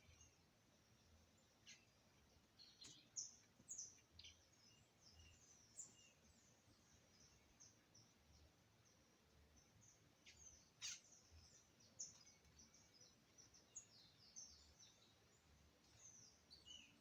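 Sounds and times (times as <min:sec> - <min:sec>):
birds chirping: 0:00.0 - 0:17.0
faint outdoor background noise: 0:00.0 - 0:17.0.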